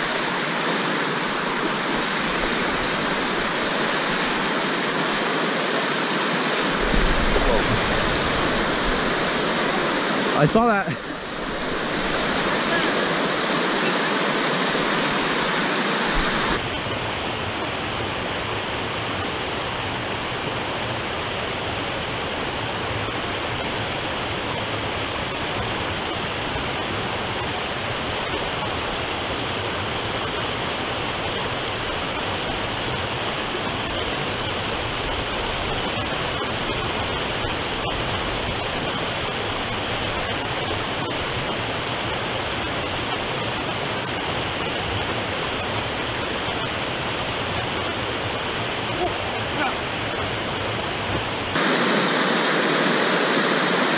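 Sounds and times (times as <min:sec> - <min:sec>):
river water rushing over rocks: 0:00.0 - 0:53.9.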